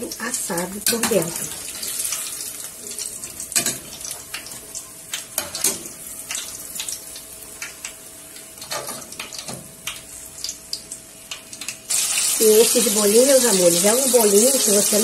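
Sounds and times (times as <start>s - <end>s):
dough sizzling in hot oil: 0.0s - 15.0s.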